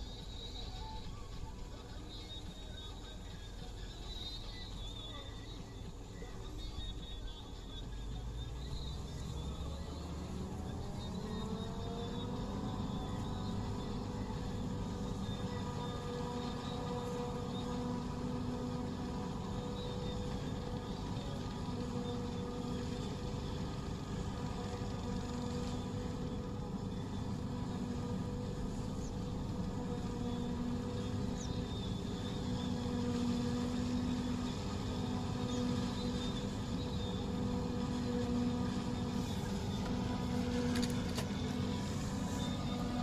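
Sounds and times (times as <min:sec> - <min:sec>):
tractor engine running under load: 0:00.0 - 0:43.0.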